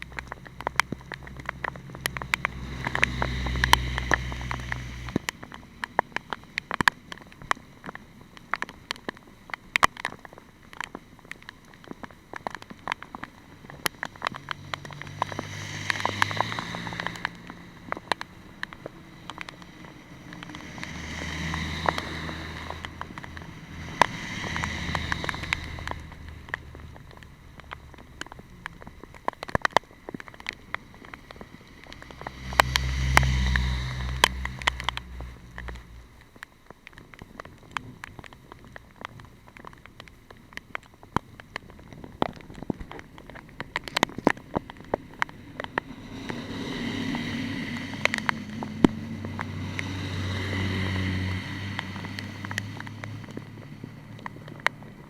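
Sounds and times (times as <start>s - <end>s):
raindrops on hard surface: 0.0s - 55.0s.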